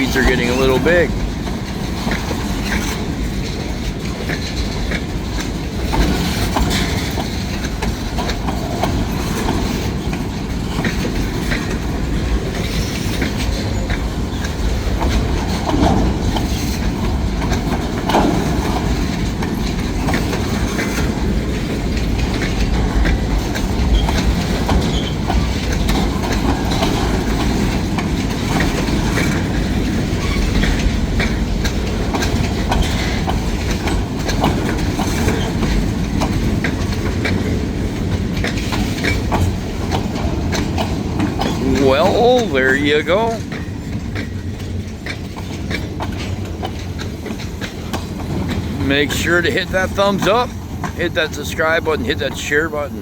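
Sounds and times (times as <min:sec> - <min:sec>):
wheels clacking over rail joints: 0:00.0 - 0:52.9
train wheels on rail: 0:00.0 - 0:53.0.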